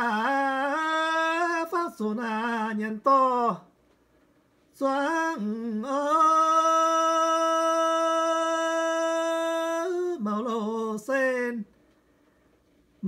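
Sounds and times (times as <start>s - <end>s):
solo voice singing: 0.0s - 3.7s, 4.7s - 11.7s.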